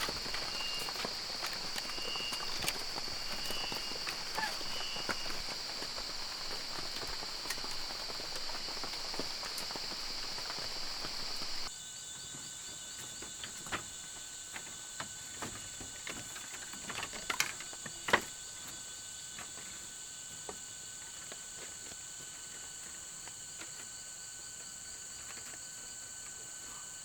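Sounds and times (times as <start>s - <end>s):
insects droning chorus: 0.0s - 27.0s.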